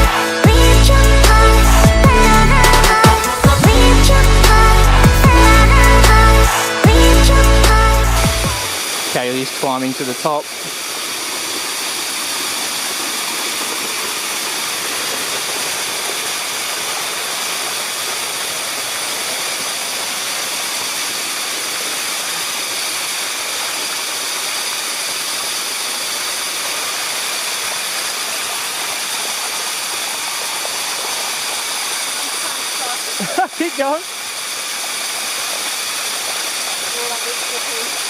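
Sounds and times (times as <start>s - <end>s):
waterfall rushing over rock: 0.0s - 38.0s.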